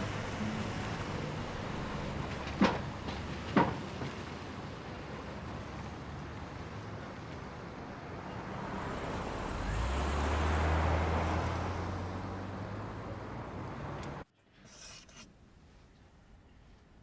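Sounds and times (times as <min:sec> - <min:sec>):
car passing by: 0:00.0 - 0:14.2.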